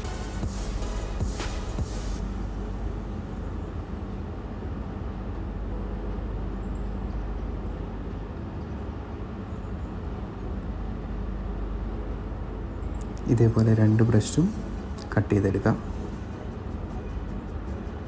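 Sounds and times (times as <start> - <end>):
low rumbling hum: 0.0 - 18.0.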